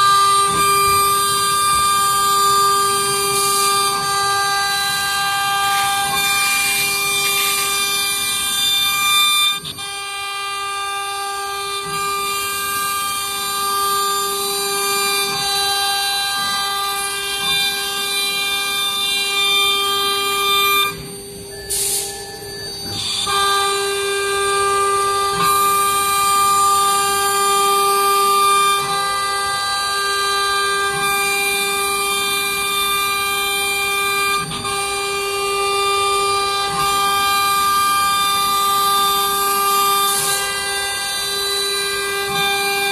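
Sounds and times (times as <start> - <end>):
router spindle whining: 0.0 - 42.9.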